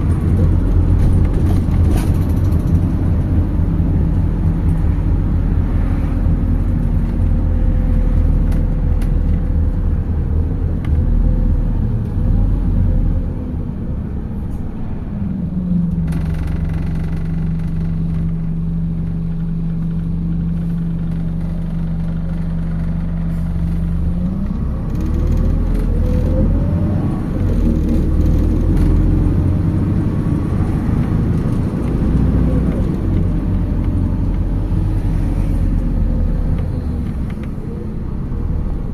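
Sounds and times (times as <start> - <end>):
bus accelerating whine: 0.0 - 38.9
bus engine and road rumble: 0.0 - 38.9
bus engine idling hum: 0.0 - 38.9.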